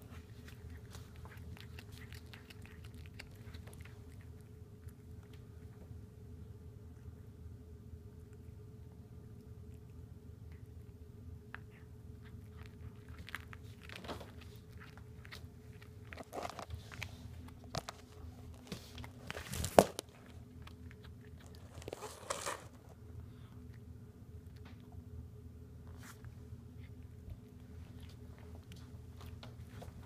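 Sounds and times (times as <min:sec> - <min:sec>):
cat chewing and crunching: 0:00.0 - 0:30.0.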